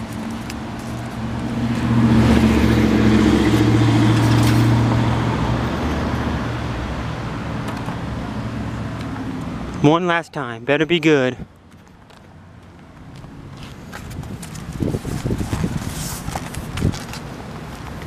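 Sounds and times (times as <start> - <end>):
vehicle engine humming: 0.0 - 10.0, 10.8 - 18.0.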